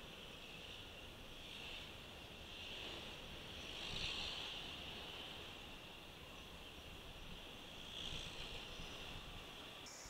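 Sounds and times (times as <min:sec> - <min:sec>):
high-pitched hiss: 0:00.0 - 0:10.0
muffled road traffic: 0:00.0 - 0:10.0.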